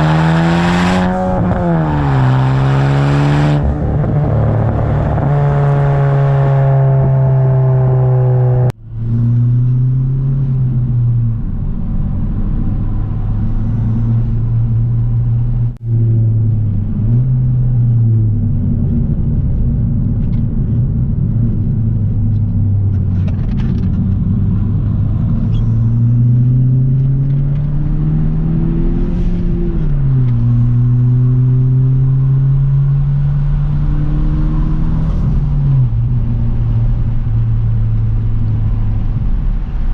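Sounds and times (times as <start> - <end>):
car exhaust droning while driving: 0.0 - 39.9.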